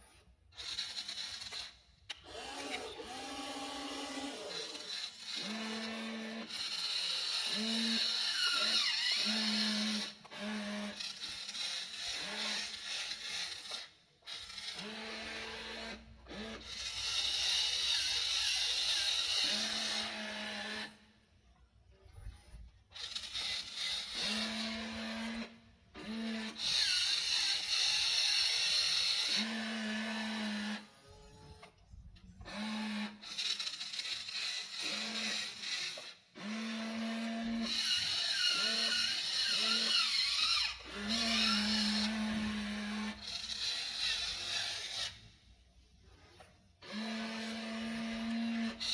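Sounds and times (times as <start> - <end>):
electric motors whining: 0.0 - 21.1, 22.0 - 48.9.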